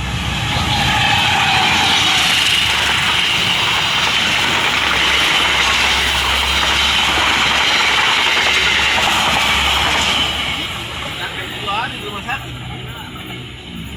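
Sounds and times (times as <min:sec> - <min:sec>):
train wheels on rails: 0:00.0 - 0:13.9.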